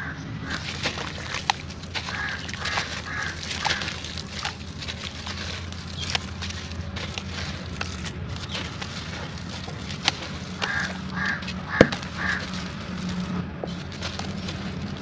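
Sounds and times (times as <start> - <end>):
sand and cement crumbling: 0.4 - 15.0.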